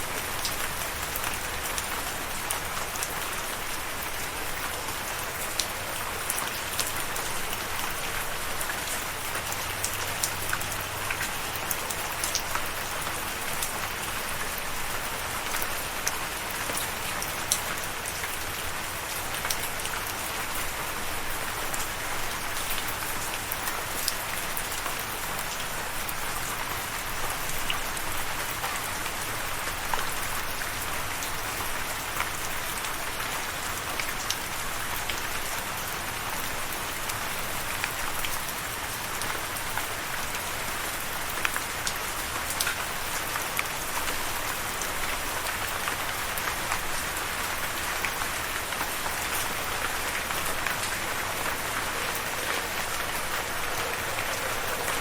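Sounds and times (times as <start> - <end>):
raindrops ticking on hard surface: 0.0 - 55.0
steady rain hiss: 0.0 - 55.0.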